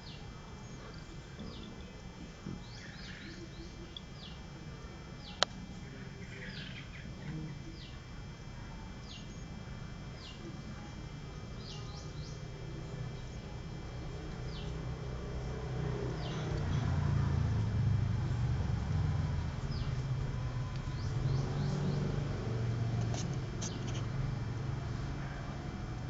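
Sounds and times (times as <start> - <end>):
birds chirping: 0.0 - 8.3, 9.0 - 18.3, 18.9 - 24.8
low background hum: 0.0 - 26.0.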